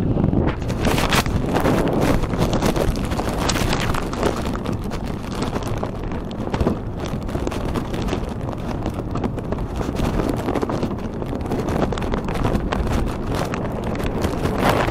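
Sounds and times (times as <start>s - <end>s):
wind buffeting microphone: 0.0s - 14.9s
rain ticks and clicks: 0.6s - 14.9s.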